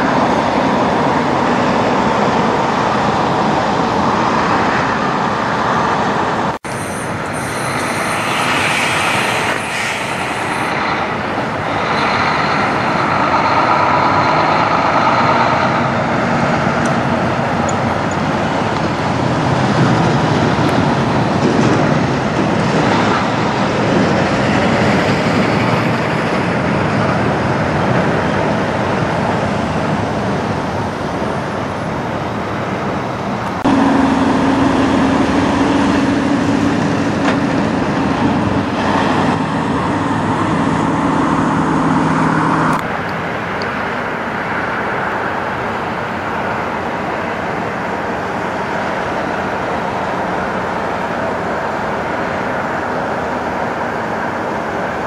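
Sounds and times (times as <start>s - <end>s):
trucks driving past: 0.0s - 55.0s.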